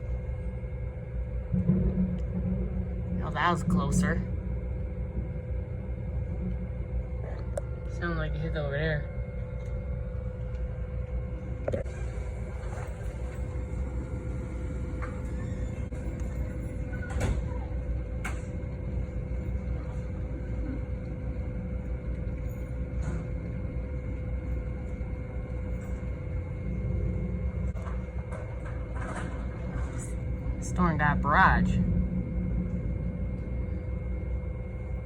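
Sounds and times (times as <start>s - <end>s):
thunder rumbling: 0.0s - 10.2s, 11.2s - 35.0s.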